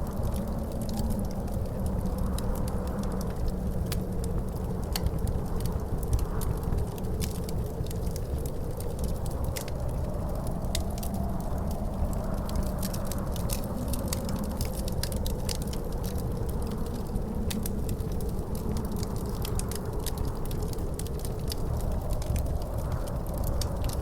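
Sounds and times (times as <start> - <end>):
wind rumbling and howling: 0.0 - 24.0
wood fire crackling and popping: 0.0 - 24.0.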